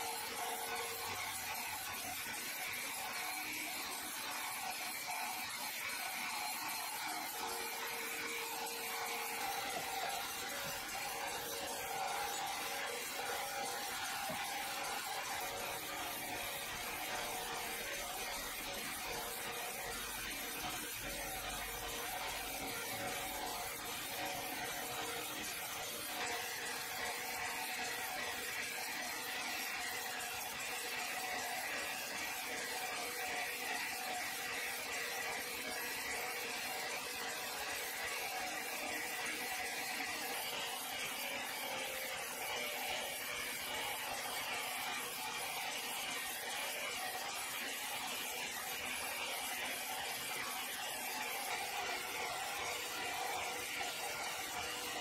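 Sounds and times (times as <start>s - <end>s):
band saw cutting timber: 0.0s - 55.0s.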